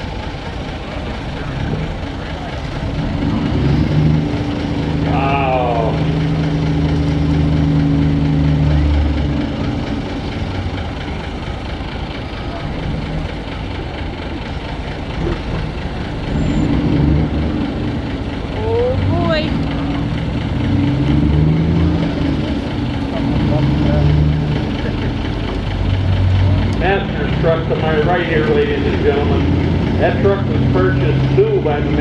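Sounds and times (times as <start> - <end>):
truck engines running slowly: 0.0 - 32.0.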